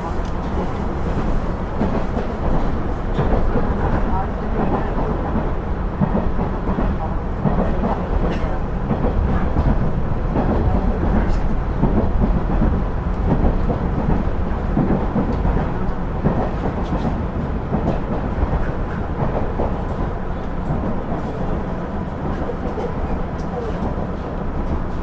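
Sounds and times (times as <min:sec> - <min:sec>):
diesel railcar engine rumble: 0:00.0 - 0:25.0
train wheels on rails: 0:00.0 - 0:25.0.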